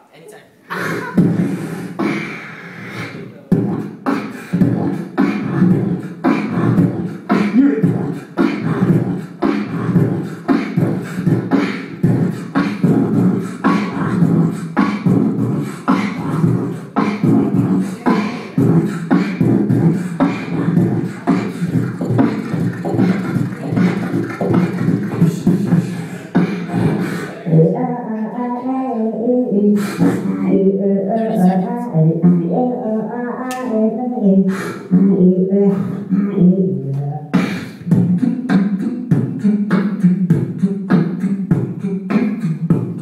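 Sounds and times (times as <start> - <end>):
beatboxing mouth clicks: 0.7 - 28.5, 29.2 - 43.0.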